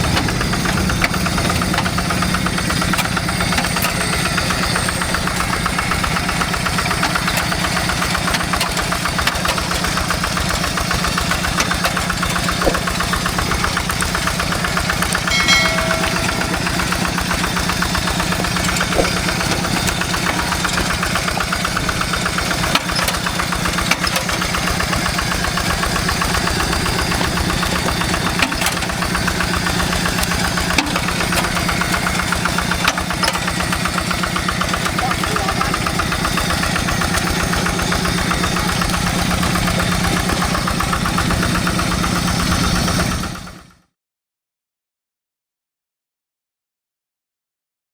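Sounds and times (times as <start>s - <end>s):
diesel engine running: 0.0s - 43.8s.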